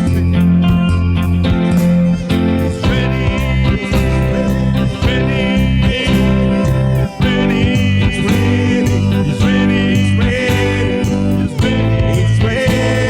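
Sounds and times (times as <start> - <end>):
guitar and bass: 0.0 - 13.0
person singing: 0.0 - 13.0
steady drum beat: 0.0 - 13.0.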